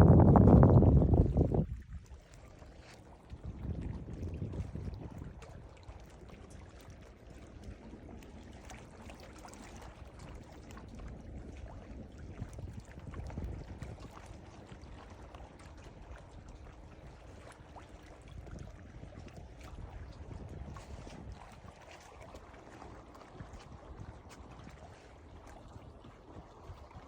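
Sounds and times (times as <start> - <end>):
ocean water sloshing and splashing: 0.0 - 27.0
small crackling splashes: 1.2 - 27.0.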